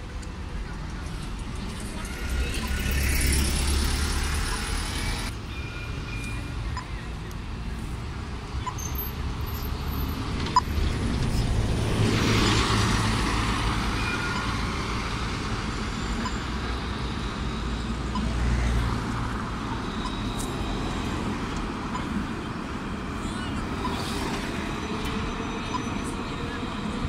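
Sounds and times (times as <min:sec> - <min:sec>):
low rumble of city traffic: 0:00.0 - 0:27.0.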